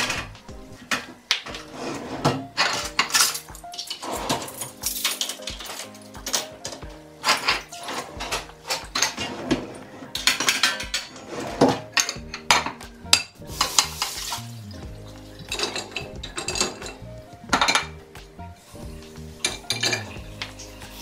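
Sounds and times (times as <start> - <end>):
dishes and cutlery clattering: 0.0 - 14.5, 15.1 - 18.0, 19.4 - 21.0
soft background music: 0.0 - 21.0.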